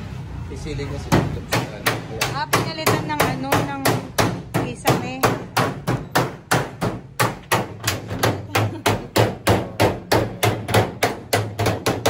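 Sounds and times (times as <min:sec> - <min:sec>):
hammer on sheet metal: 0:01.1 - 0:12.0.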